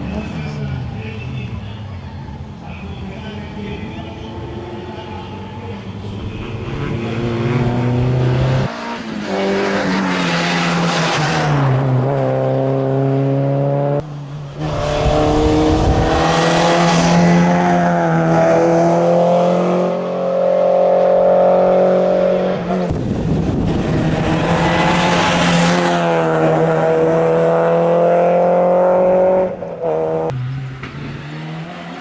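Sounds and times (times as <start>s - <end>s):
rally car engine passing at speed: 3.4s - 32.0s.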